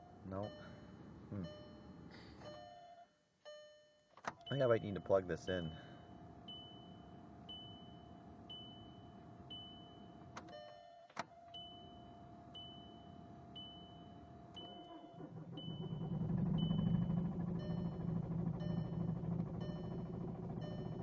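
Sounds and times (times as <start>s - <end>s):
dashboard warning chime: 0.0s - 21.0s.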